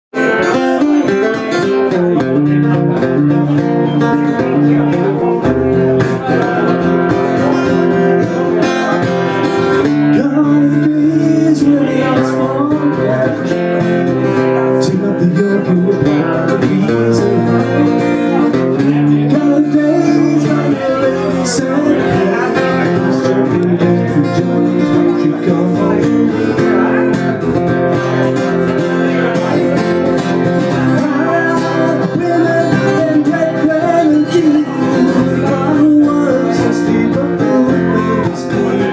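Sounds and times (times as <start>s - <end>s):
acoustic guitar: 0.1s - 38.9s
man singing: 0.2s - 38.9s.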